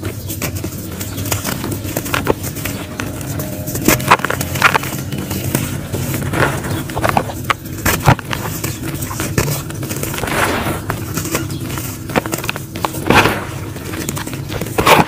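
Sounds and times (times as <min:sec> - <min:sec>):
hands crumbling dry clay: 0:00.0 - 0:15.0.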